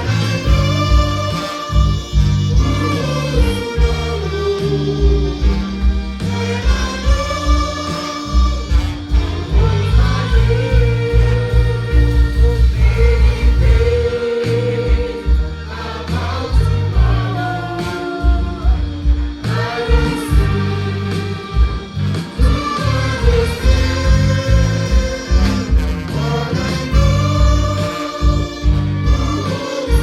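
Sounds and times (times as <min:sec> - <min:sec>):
band with pulsing bass line: 0:00.0 - 0:30.0
gospel choir singing: 0:00.0 - 0:30.0.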